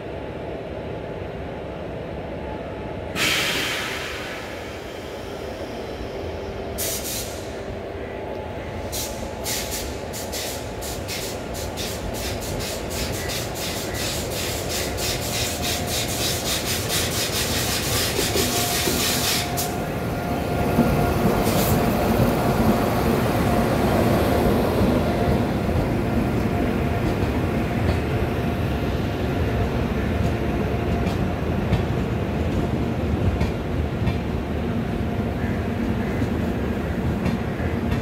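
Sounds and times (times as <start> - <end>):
train rolling past: 0.0 - 38.0.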